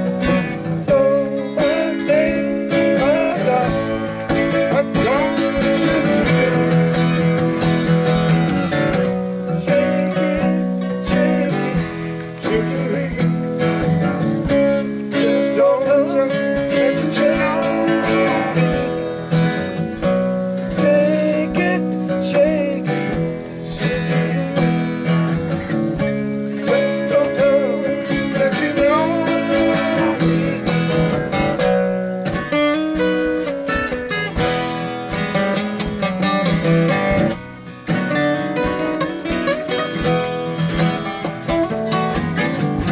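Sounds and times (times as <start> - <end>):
acoustic guitars strummed: 0.0 - 42.9.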